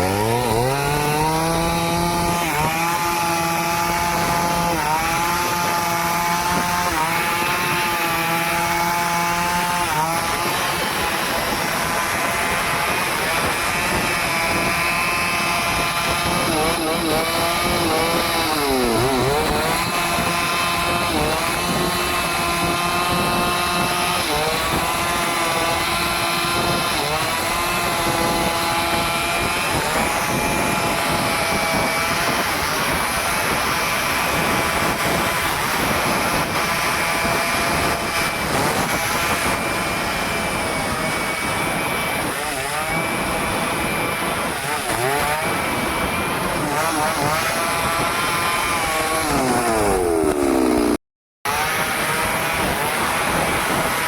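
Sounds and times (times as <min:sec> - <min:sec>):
chainsaw running at high revs: 0:00.0 - 0:54.0.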